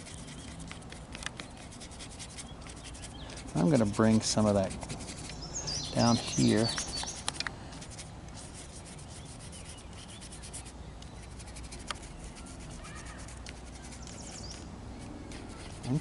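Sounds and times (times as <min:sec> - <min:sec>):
paintbrush scrubbing on paper: 0:00.0 - 0:14.6, 0:15.2 - 0:16.0.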